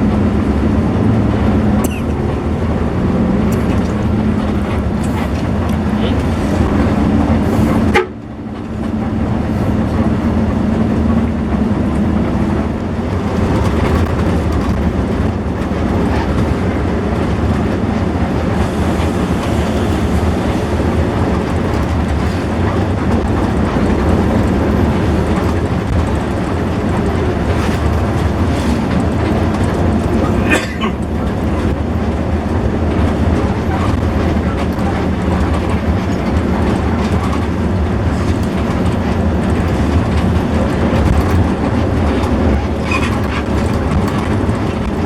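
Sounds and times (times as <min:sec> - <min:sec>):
bus engine and road noise: 0:00.0 - 0:45.0.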